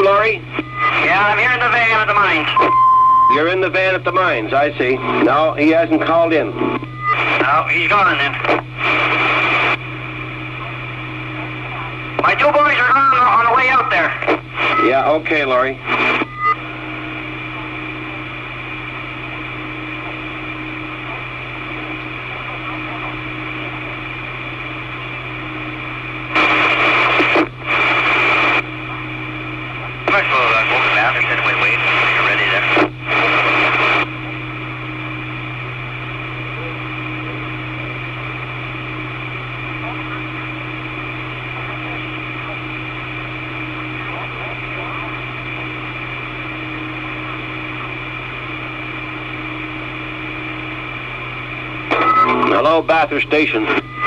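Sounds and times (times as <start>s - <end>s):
loud bursts of radio static: 0.0s - 54.0s
radio channel hiss and hum: 0.0s - 54.0s.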